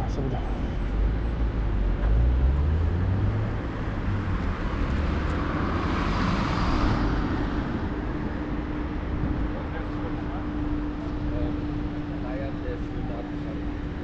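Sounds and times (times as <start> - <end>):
traffic engines rumbling: 0.0 - 14.0
tyre noise of passing vehicle: 0.0 - 14.0.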